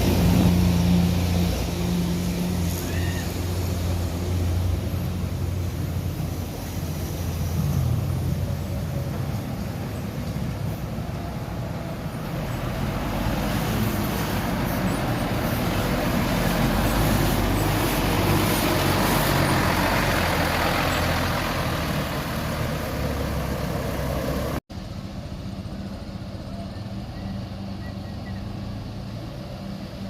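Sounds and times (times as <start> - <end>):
bus engine running: 0.0 - 30.0
road noise: 0.0 - 30.0.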